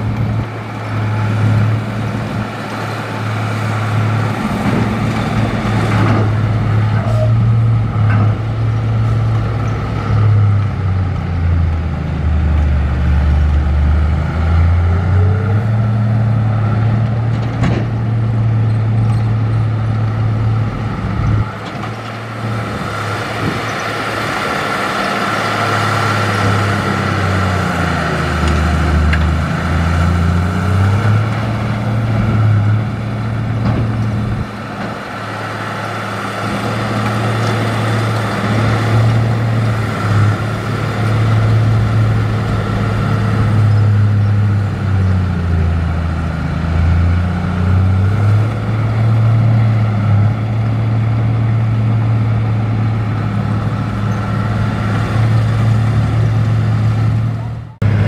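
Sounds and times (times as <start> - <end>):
heavy diesel engine working: 0.0 - 58.0.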